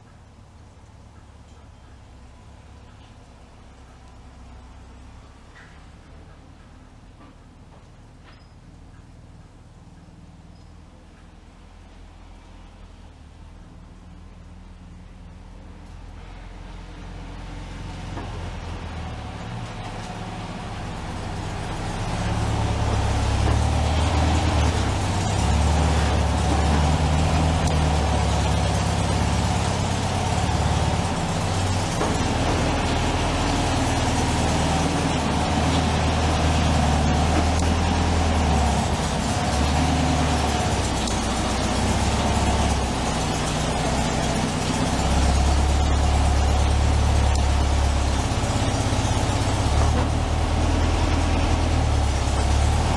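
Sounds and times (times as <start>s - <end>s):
car engine running: 0.0s - 52.9s.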